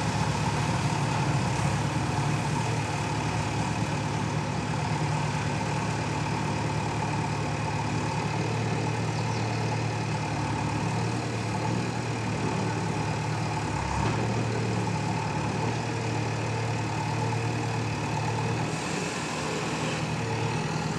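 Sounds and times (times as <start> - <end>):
heavy engine idling: 0.0 - 20.9.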